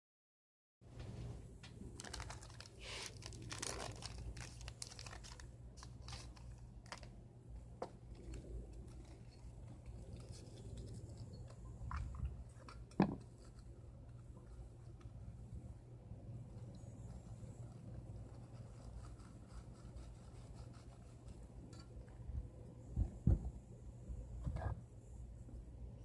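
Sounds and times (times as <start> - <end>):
low steady hum: 0.9 - 26.0.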